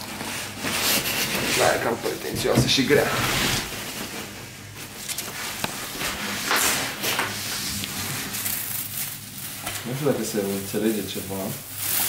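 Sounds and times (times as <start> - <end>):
plastic film rustling and crinkling: 0.0 - 12.0.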